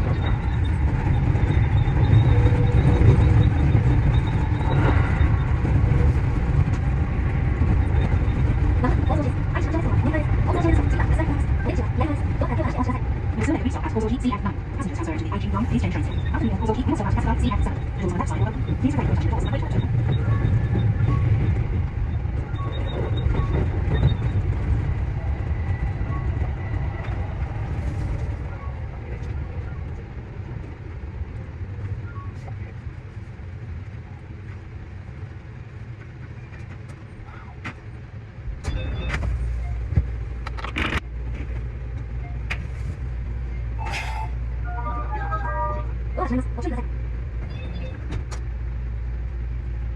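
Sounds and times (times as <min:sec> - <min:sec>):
train running rumble: 0:00.0 - 0:49.9.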